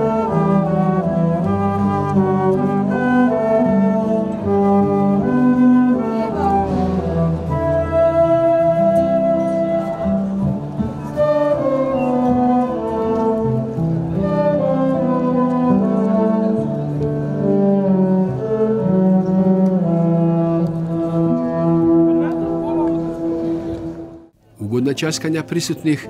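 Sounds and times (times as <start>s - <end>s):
orchestra playing slow melody: 0.0s - 24.4s.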